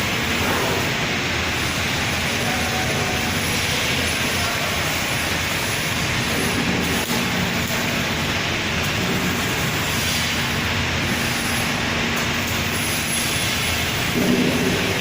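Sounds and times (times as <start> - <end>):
welding machine hiss and hum: 0.0 - 15.0.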